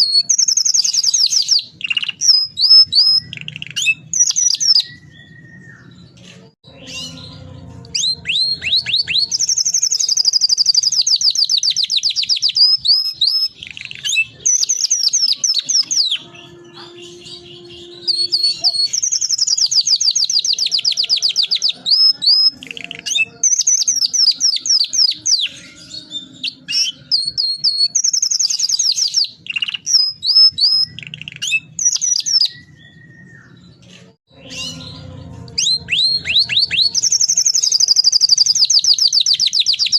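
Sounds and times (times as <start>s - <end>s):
canary chirps: 0.0s - 39.9s
canary singing trills: 0.0s - 39.9s.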